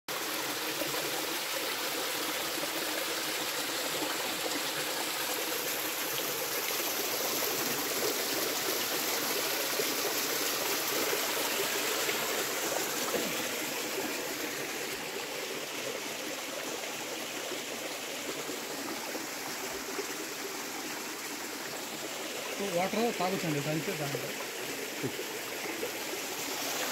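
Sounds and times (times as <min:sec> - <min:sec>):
water flowing over rocks: 0:00.1 - 0:26.9.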